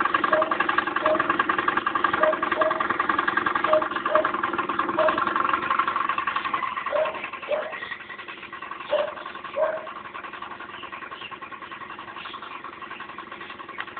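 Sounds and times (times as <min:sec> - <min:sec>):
scooter engine idling: 0:00.0 - 0:13.9.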